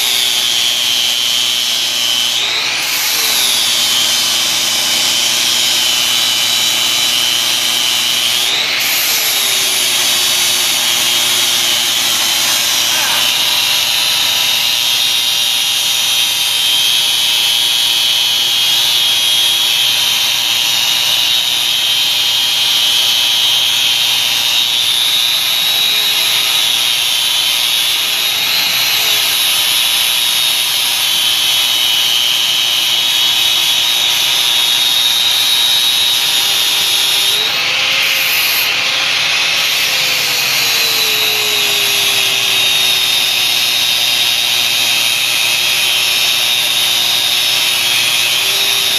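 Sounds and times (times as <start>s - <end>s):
power tool whining: 0.0s - 48.9s.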